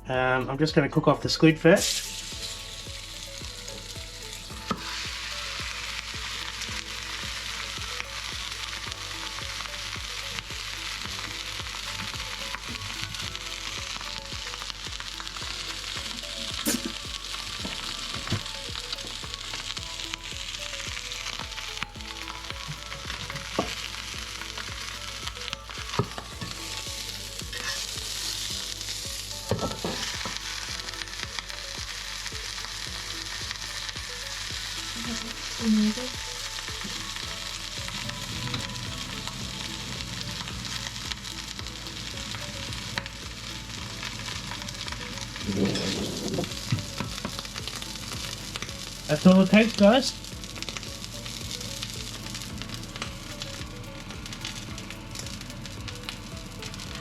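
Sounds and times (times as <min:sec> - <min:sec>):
squid sizzling in a pan: 0:01.8 - 0:57.0.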